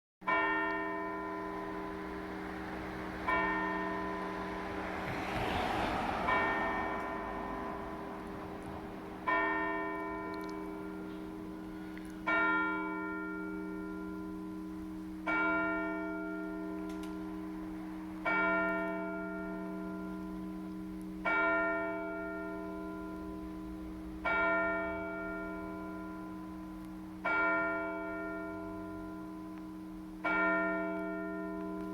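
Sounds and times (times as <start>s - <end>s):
church bell tolling: 0.2s - 5.1s, 6.0s - 31.9s.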